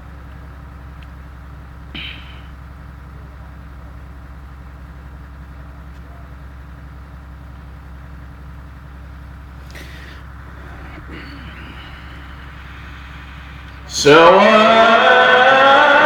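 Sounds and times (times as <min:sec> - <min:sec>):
electrical hum and hiss: 0:00.0 - 0:06.8, 0:07.5 - 0:14.2.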